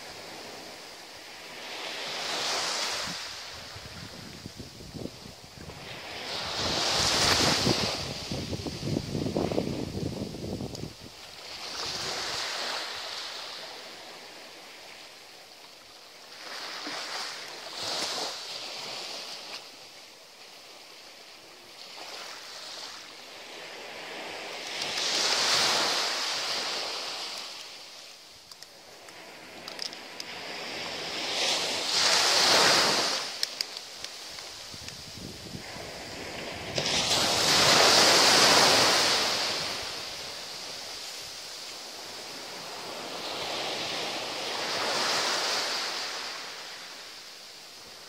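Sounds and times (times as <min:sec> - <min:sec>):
small waves breaking on beach: 0:00.0 - 0:48.0.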